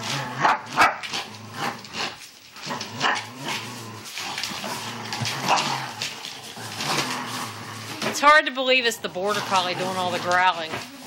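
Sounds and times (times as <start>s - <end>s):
dog play-growling: 0.0s - 11.0s.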